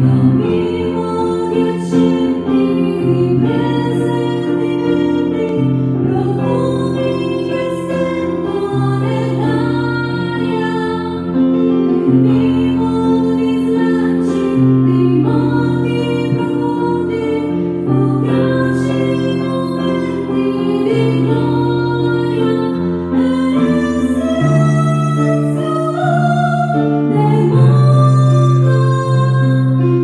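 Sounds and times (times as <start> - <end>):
electronic keyboard chords: 0.0 - 30.0
woman singing into a microphone: 0.0 - 30.0.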